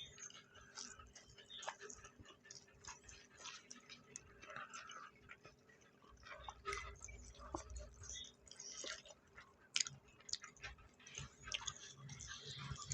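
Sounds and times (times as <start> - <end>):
chewing: 0.0 - 12.9
eating clicks and crackles: 0.0 - 12.9.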